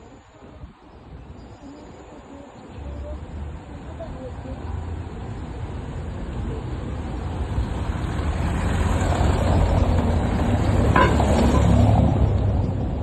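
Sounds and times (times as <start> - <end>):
motor vehicle rumbling: 0.6 - 13.0.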